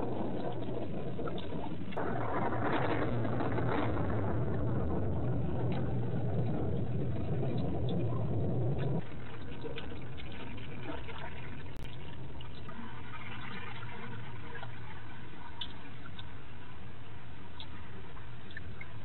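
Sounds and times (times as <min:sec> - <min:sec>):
light rain with drips: 0:00.0 - 0:19.0.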